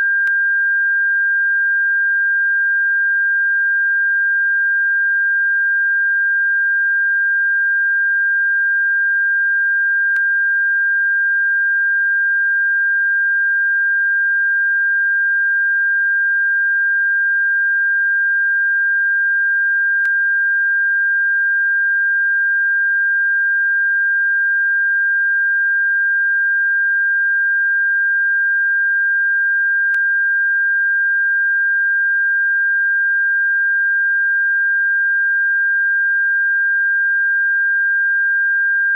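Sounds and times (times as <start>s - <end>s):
high-pitched sine tone: 0.0s - 38.9s.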